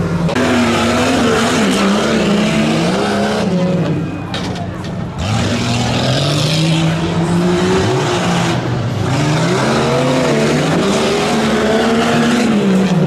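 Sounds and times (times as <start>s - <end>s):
tires on dirt: 0.0s - 13.0s
truck engine revving: 0.0s - 13.0s.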